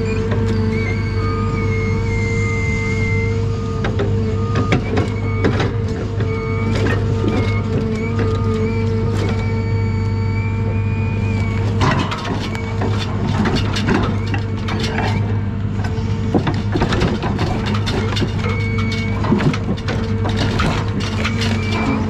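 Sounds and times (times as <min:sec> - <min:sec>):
diesel engine running: 0:00.0 - 0:22.0
hydraulic whine: 0:00.0 - 0:22.0.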